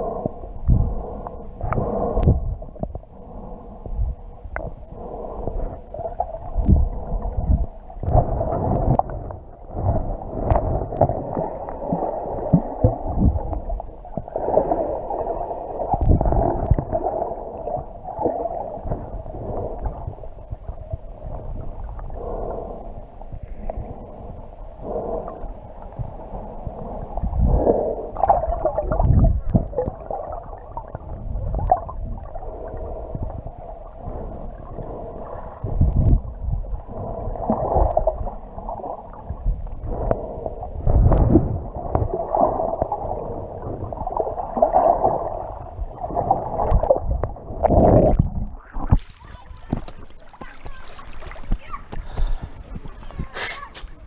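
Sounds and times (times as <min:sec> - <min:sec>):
underwater gurgling and sloshing: 0:00.0 - 0:54.0.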